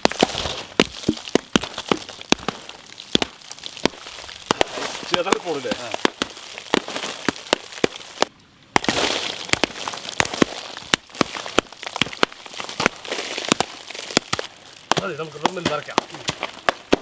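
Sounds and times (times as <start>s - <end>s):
hammer blows on ice: 0.0s - 17.0s
ice cracking and crunching: 0.0s - 17.0s.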